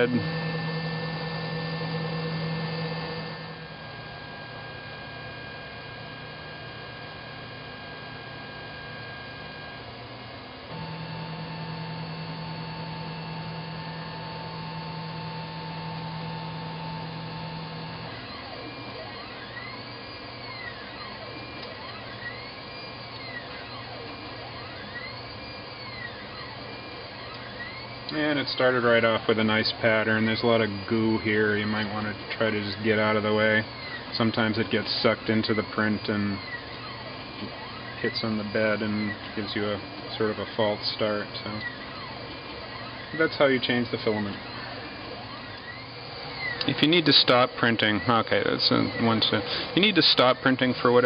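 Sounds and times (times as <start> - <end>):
printer fans and motors humming: 0.0 - 51.0
stepper motors whining in pitch: 0.0 - 51.0.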